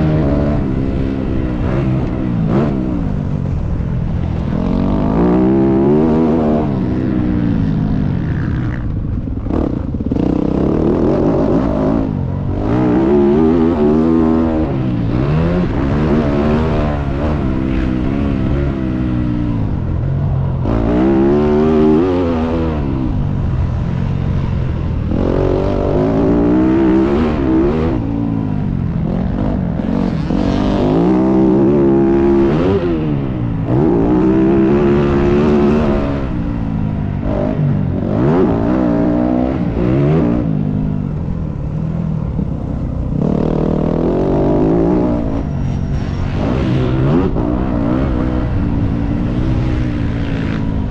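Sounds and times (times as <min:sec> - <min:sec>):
dirt bike engine revving: 0:00.0 - 0:41.2, 0:43.1 - 0:50.9.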